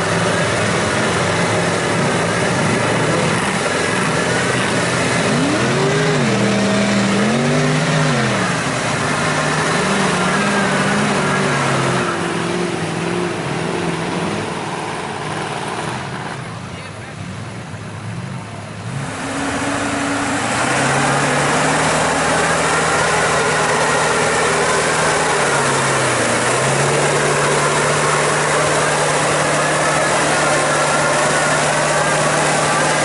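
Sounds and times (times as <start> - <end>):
truck engine running hard: 0.0 - 33.0.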